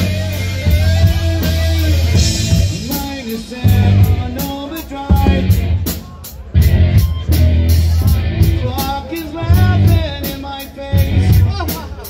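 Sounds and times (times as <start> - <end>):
bass guitar: 0.0 - 12.0
drum kit cymbal beat: 0.0 - 12.0
electric guitars: 0.0 - 12.0.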